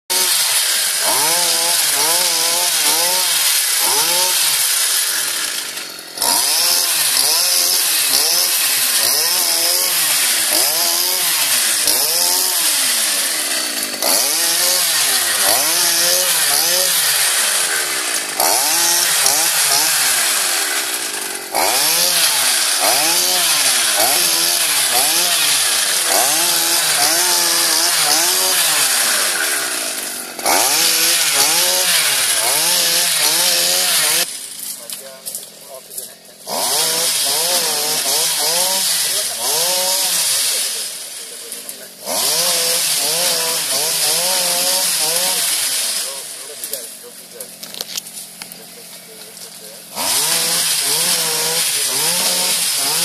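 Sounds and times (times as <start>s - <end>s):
small petrol engine revving: 0.1s - 53.0s.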